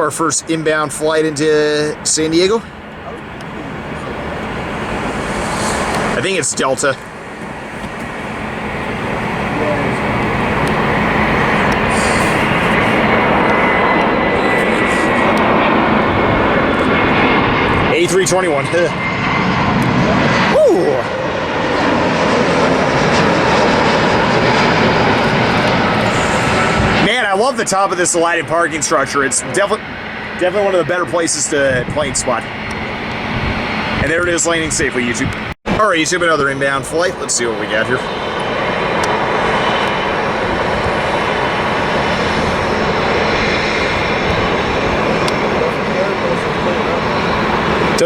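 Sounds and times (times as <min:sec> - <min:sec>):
jet engines rushing: 0:00.0 - 0:48.0.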